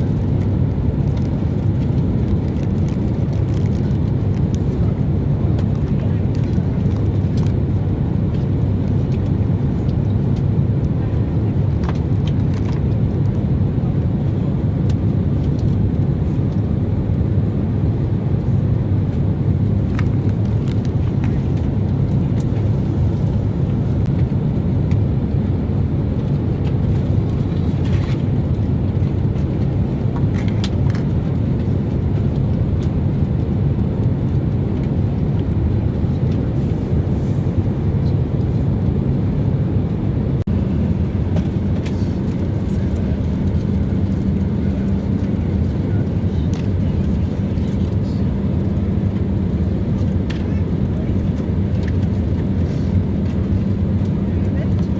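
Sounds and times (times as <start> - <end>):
airliner cabin noise: 0.0 - 54.9.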